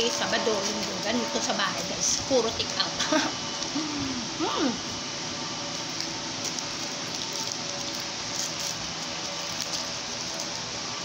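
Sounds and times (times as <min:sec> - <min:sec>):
aluminium foil crinkling: 0:00.0 - 0:03.7, 0:05.6 - 0:11.0
steady rushing hiss: 0:00.0 - 0:11.0.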